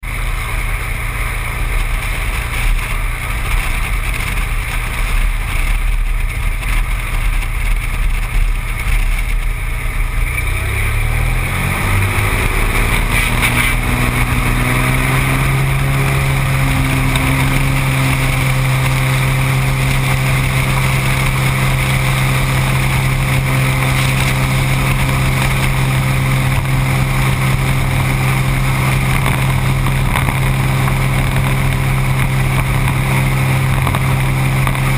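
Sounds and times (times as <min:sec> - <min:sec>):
seaplane engine and propeller: 0:00.0 - 0:34.9.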